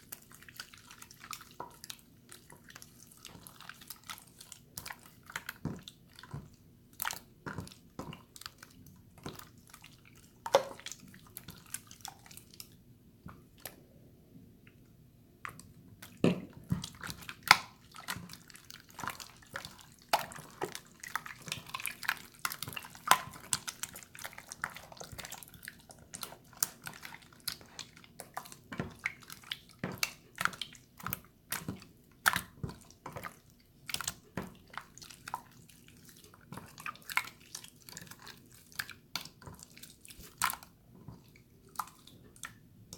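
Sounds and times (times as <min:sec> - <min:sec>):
slime squishing wet clicks: 0:00.1 - 0:13.8, 0:15.4 - 0:42.9.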